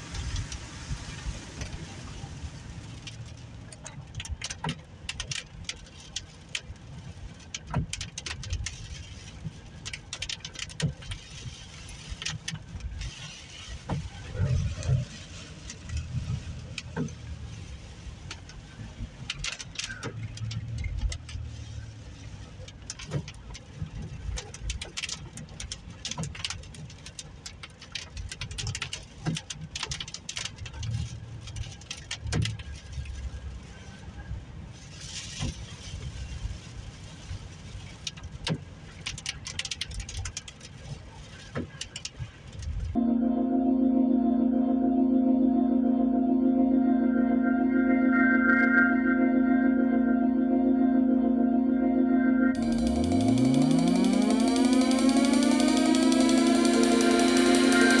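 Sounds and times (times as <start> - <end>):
rain taps and clicks: 0.0 - 43.0, 52.6 - 58.0
car engine and tyres rumbling: 0.0 - 44.0, 44.8 - 58.0.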